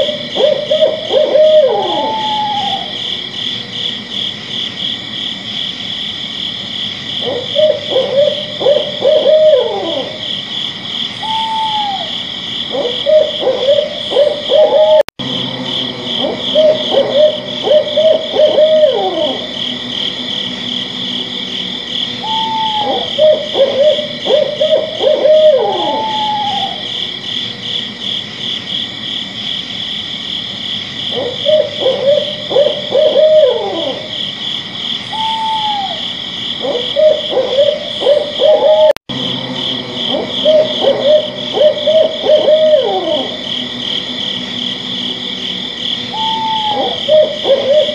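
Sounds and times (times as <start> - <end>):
owl hooting: 0.0 - 4.1, 7.1 - 28.2, 31.0 - 34.4, 35.0 - 47.9
crickets chirping: 0.0 - 47.9.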